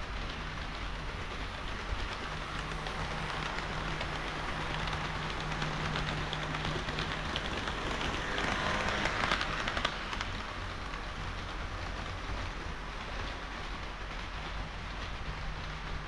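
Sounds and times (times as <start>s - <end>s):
low motor hum: 0.0s - 16.0s
model train wheels rattling: 0.0s - 16.0s.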